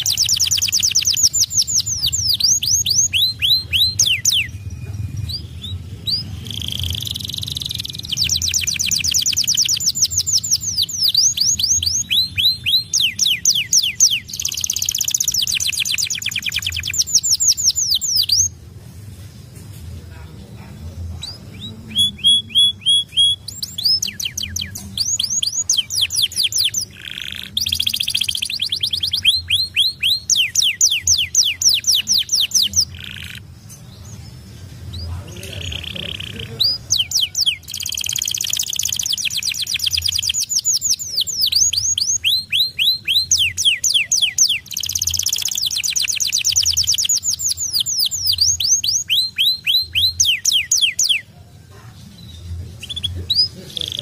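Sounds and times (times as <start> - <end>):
canary singing trills: 0.0 - 18.6, 20.1 - 54.0.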